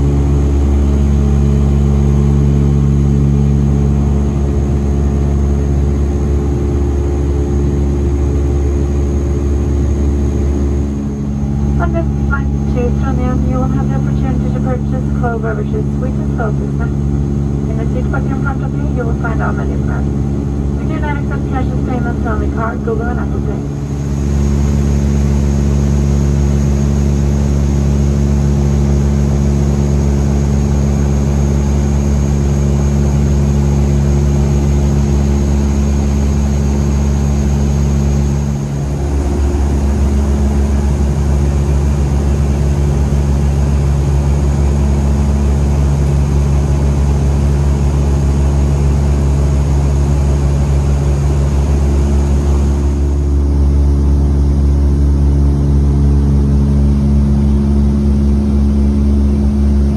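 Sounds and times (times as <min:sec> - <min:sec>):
airplane cabin propeller drone: 0:00.0 - 0:59.9.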